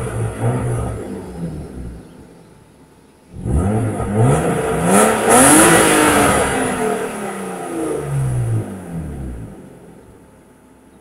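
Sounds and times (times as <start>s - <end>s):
car engine revving: 0.0s - 2.4s, 3.3s - 10.2s.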